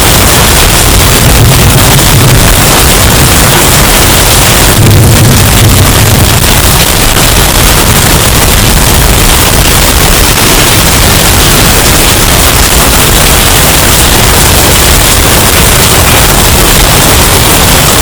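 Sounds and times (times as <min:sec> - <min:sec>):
distorted hurricane wind: 0:00.0 - 0:18.0.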